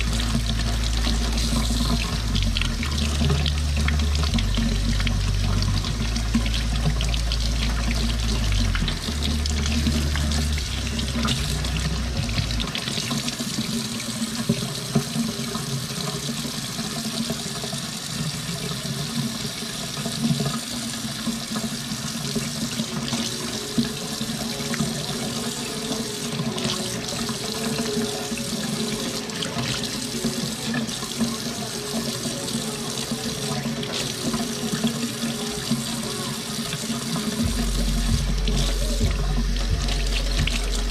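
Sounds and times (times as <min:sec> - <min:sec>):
faucet running into metal sink: 0:00.0 - 0:40.9.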